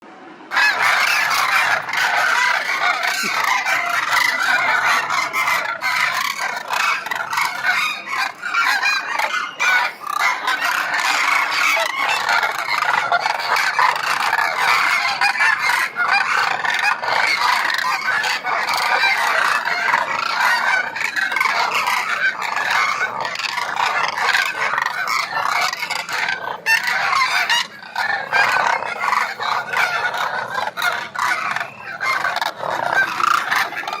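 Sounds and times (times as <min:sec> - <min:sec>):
flock of birds calling: 0:00.3 - 0:34.0.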